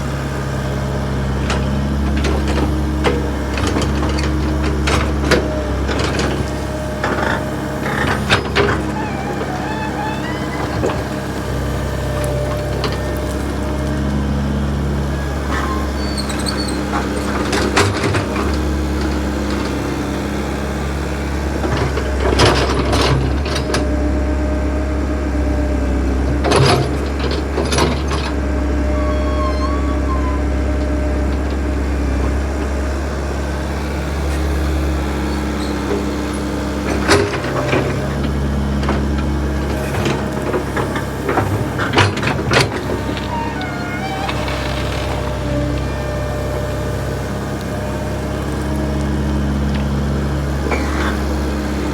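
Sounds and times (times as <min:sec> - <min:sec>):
backhoe diesel engine running: 0:00.0 - 0:51.9.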